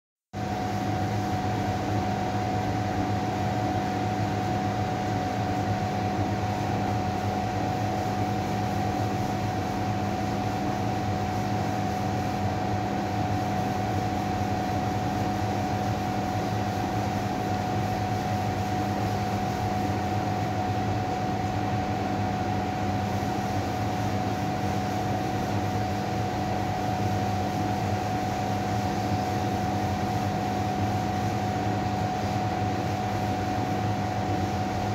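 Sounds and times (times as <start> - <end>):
steady hum and hiss: 0.4 - 34.9.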